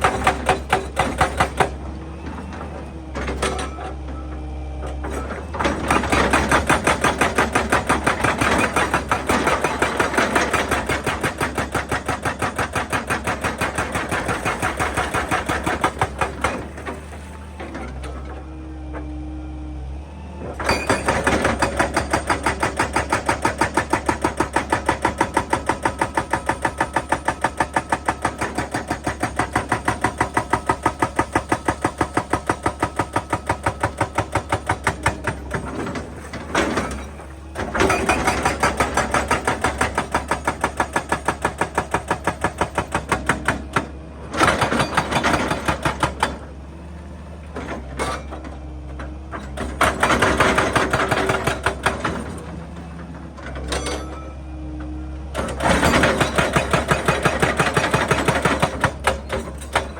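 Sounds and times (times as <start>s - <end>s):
hydraulic breaker hammering rock: 0.0s - 4.0s, 5.0s - 18.4s, 20.5s - 46.6s, 49.3s - 54.4s, 55.3s - 59.9s
excavator engine running: 0.0s - 59.9s.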